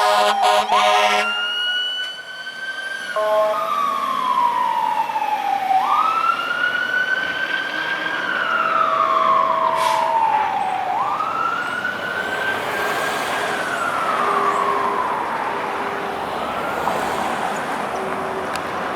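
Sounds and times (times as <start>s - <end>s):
fire engine siren wailing: 0.0s - 18.9s.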